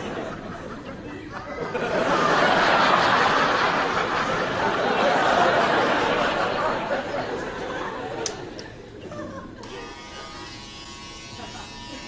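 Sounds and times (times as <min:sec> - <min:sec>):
studio audience laughing: 0:00.0 - 0:10.6, 0:11.2 - 0:12.0.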